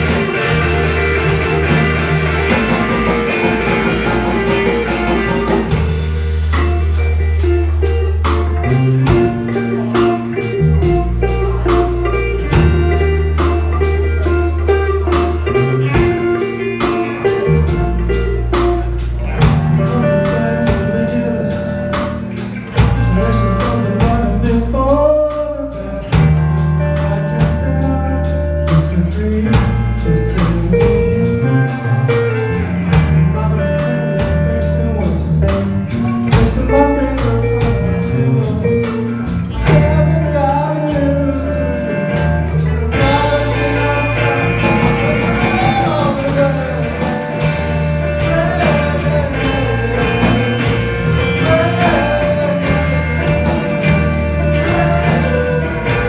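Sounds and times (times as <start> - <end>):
bass guitar: 0.0 - 56.0
drum kit steady beat: 0.0 - 56.0
lead guitar with bent notes: 0.0 - 56.0.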